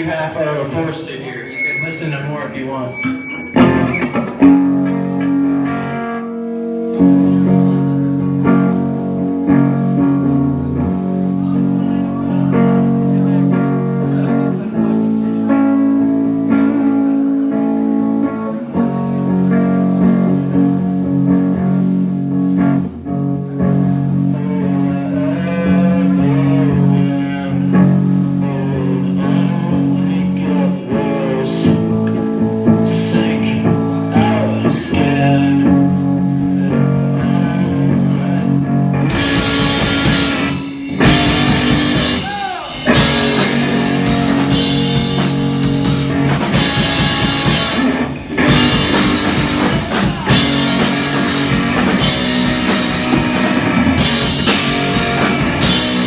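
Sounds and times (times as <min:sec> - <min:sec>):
live band with guitar: 0:00.0 - 0:56.0.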